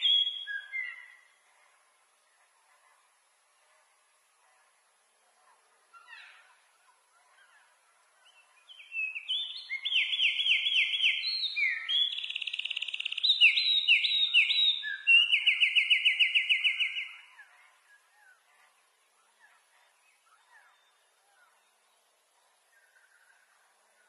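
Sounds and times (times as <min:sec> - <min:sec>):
songbird singing trills: 0:00.0 - 0:01.4, 0:05.9 - 0:24.0
faint bird chirps: 0:00.0 - 0:24.0.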